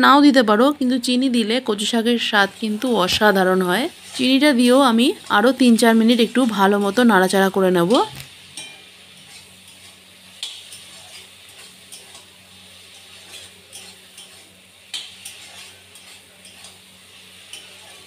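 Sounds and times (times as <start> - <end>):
low sizzle: 0.0 - 18.0
metal spatula scraping pan: 2.5 - 7.0, 7.9 - 18.0.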